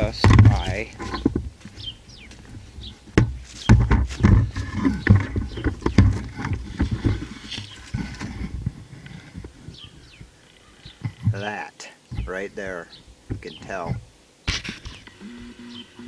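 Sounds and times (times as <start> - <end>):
knocks and clunks: 0.0 - 15.5
rustling: 0.0 - 16.0.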